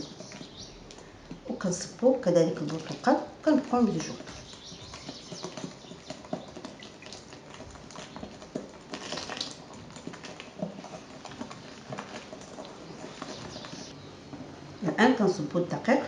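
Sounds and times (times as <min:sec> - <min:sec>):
batter sloshing: 0:00.0 - 0:14.5.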